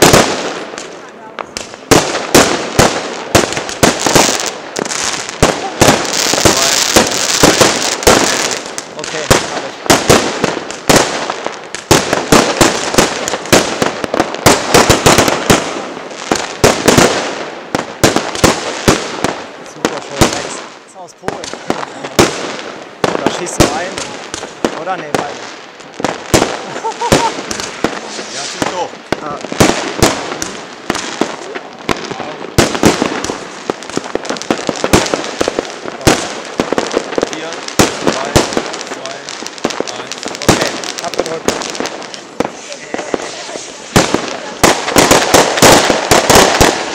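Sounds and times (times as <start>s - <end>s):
fireworks banging: 0.0s - 46.9s
fireworks crackling: 0.0s - 46.9s.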